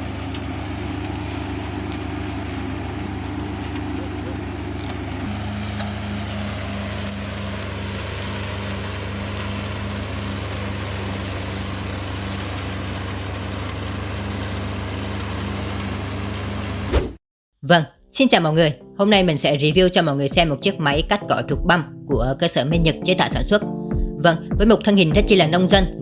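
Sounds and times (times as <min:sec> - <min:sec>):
diesel engine running: 0:00.0 - 0:16.9, 0:18.6 - 0:26.0.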